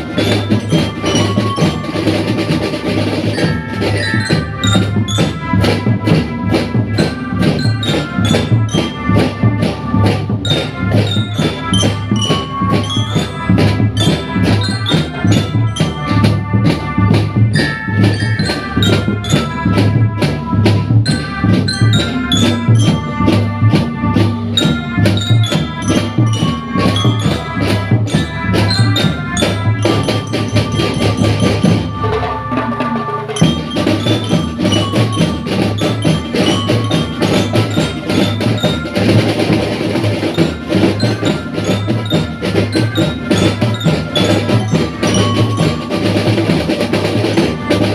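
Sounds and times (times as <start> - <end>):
glockenspiel bell melody: 0.0 - 32.5, 33.3 - 47.9
drums beating: 0.0 - 47.9.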